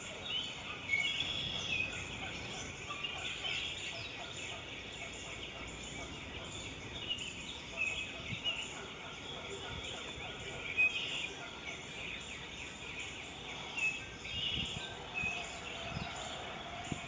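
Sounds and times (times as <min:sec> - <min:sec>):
birds chirping: 0:00.0 - 0:17.0
steady background noise: 0:00.0 - 0:17.0.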